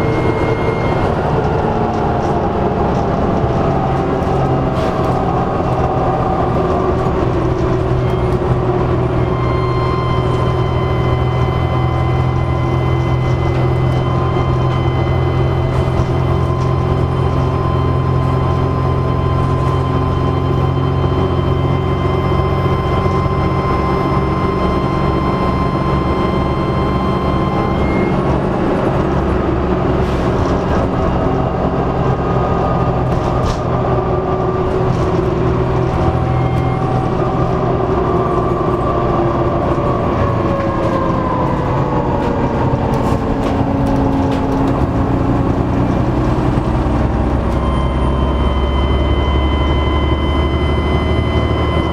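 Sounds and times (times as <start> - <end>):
bus diesel engine rumble: 0.0 - 51.9
turbocharger whine: 0.0 - 51.9.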